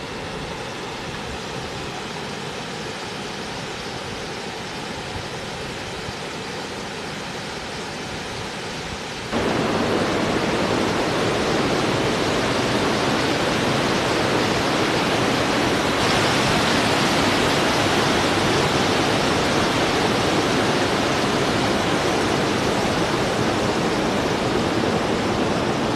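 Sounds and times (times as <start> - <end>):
waterfall rushing water: 0.0 - 25.9.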